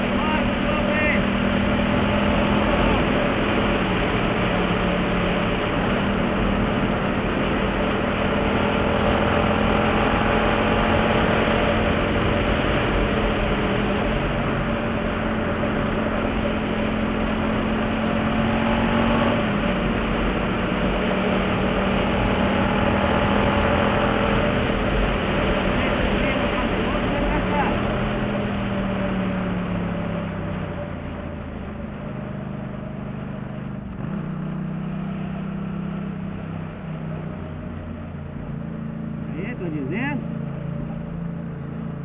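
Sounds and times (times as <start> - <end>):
motorcycle engine cruising: 0.0 - 42.0
wind and road noise: 0.0 - 42.0.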